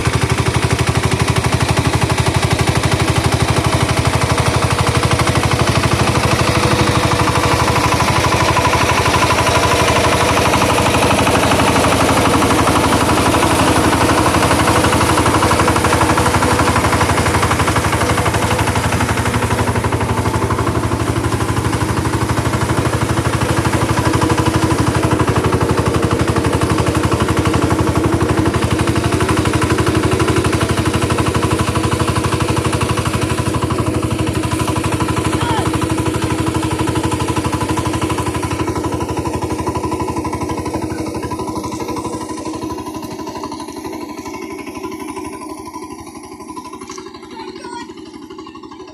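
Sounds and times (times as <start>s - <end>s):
pulsing machine engine: 0.0s - 48.9s.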